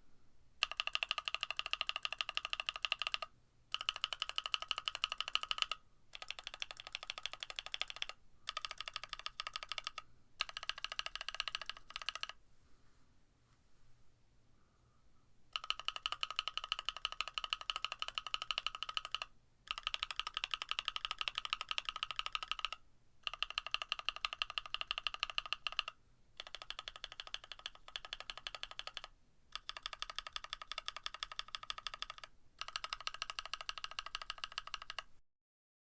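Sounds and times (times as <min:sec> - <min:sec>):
fast mechanical keyboard typing: 0:00.6 - 0:12.4, 0:15.5 - 0:35.1.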